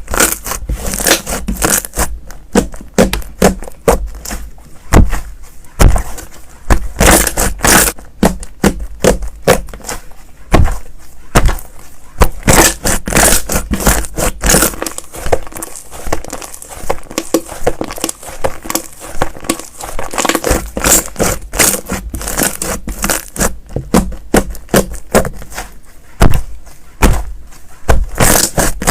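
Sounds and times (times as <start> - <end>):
slime crackling and popping: 0.0 - 5.2, 5.8 - 10.7, 12.2 - 25.5, 27.9 - 28.9.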